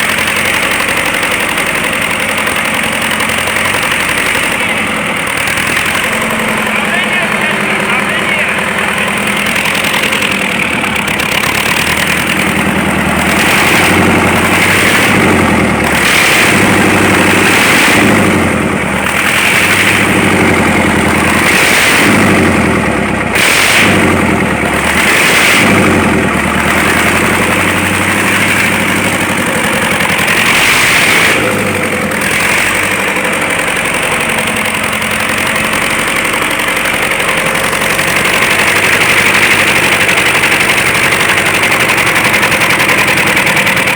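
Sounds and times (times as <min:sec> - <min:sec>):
diesel engine revving and idling: 0:00.0 - 0:43.9.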